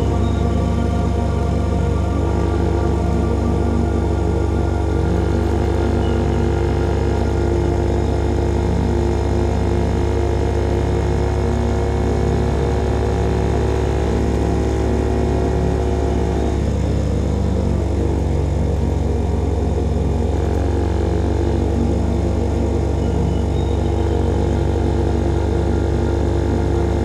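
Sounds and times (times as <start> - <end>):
motorcycle engine cruising: 0.0 - 27.0.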